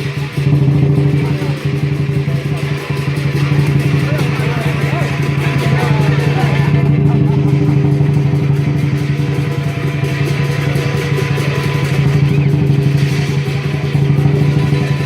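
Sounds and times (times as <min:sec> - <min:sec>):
cymbals ringing: 0:00.0 - 0:15.0
drum beaten in fast roll: 0:00.0 - 0:15.0
gong ringing: 0:00.0 - 0:15.0.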